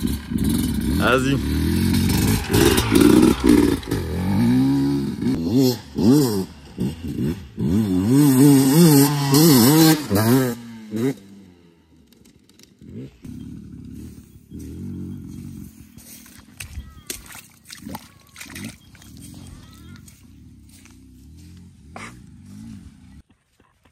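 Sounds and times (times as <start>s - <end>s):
dirt bike engine revving: 0.0s - 17.1s, 17.7s - 23.3s.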